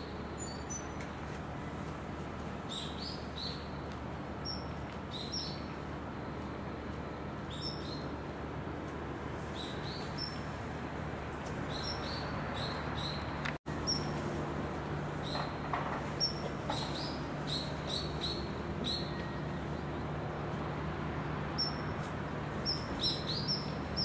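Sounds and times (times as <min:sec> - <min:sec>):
low drone and hiss: 0:00.0 - 0:24.0
songbirds chirping: 0:00.0 - 0:24.0.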